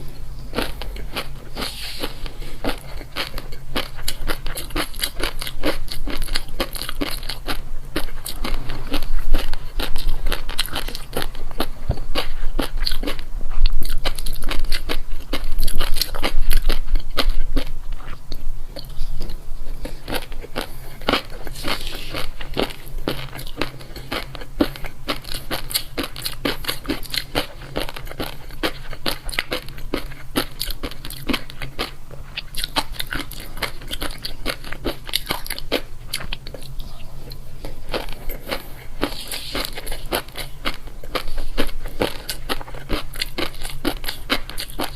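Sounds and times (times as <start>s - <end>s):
crunching and chewing crisp food: 0.0s - 44.9s.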